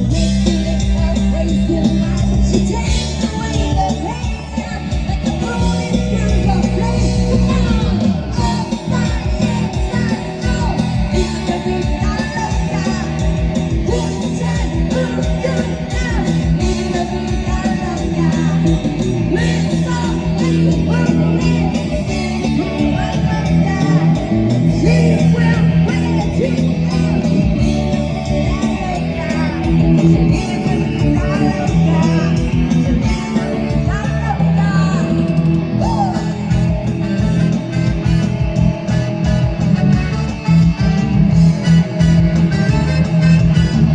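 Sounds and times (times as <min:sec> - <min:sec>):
low bass notes: 0:00.0 - 0:43.9
person singing: 0:00.0 - 0:43.9
rock band playing: 0:00.0 - 0:43.9.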